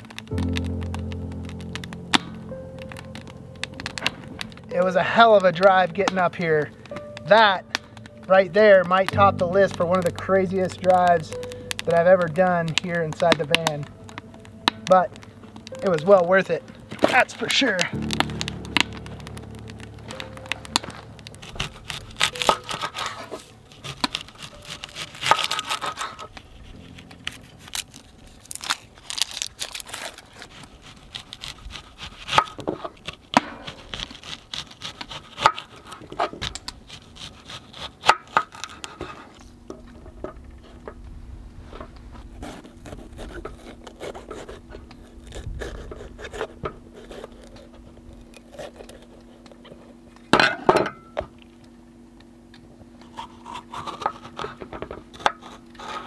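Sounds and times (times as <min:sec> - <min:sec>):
steady low hum: 0:00.4 - 0:29.4, 0:38.7 - 0:56.0.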